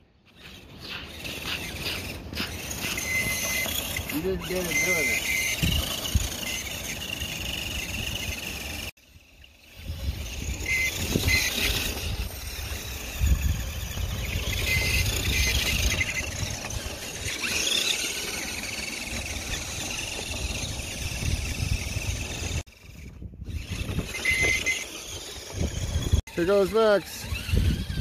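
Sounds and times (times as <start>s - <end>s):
rc motor and gears whining: 0.0s - 28.0s.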